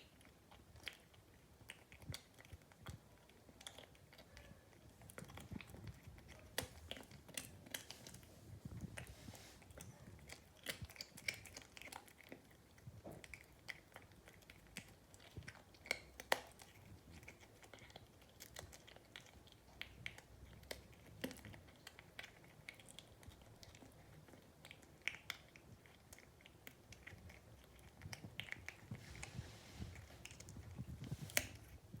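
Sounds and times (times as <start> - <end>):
cat chewing with crunches: 0.0 - 32.0.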